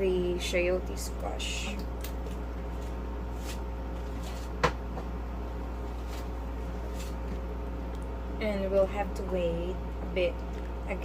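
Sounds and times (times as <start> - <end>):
kitchen hum: 0.0 - 11.0.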